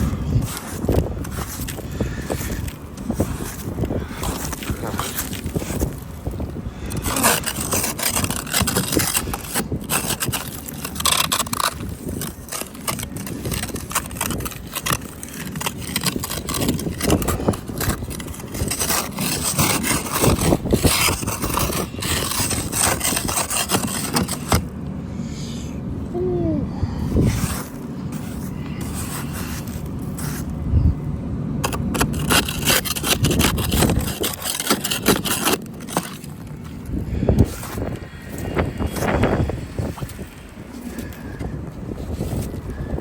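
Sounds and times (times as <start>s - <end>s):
ice scraped off a car: 0.0s - 25.6s, 27.0s - 30.6s, 31.6s - 43.0s
wind buffeting the microphone: 0.0s - 43.0s.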